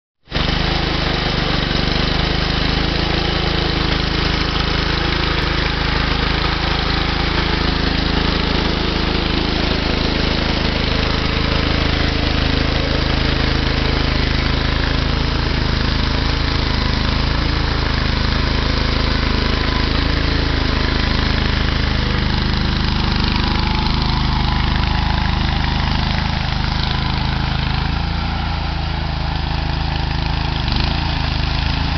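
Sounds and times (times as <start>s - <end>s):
tractor engine running under load: 0.3s - 31.9s.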